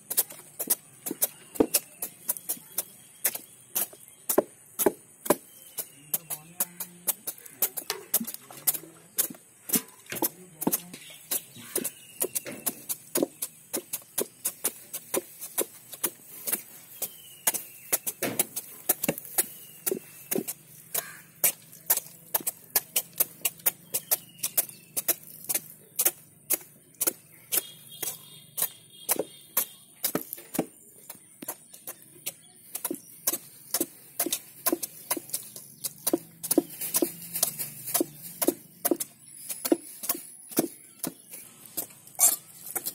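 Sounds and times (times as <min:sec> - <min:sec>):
cleaver chopping on wooden board: 0:00.0 - 0:42.9.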